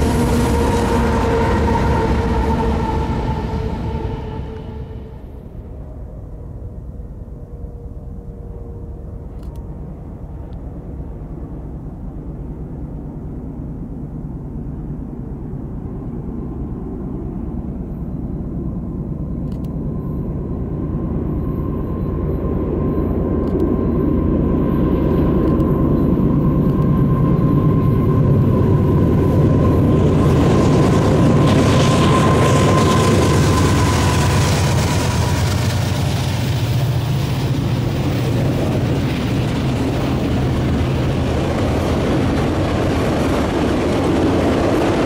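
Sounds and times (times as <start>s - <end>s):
locomotive engines rumbling: 0.0s - 15.7s, 16.6s - 45.0s
thin steady whine: 0.0s - 45.0s.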